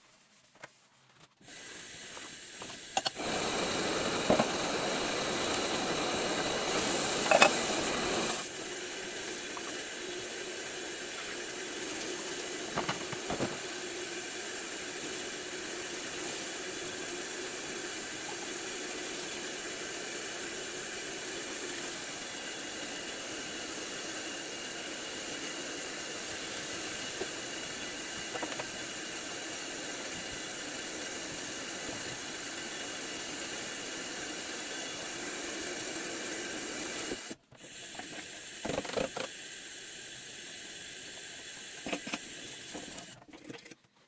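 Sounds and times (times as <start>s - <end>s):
water running into sink: 1.5s - 43.2s.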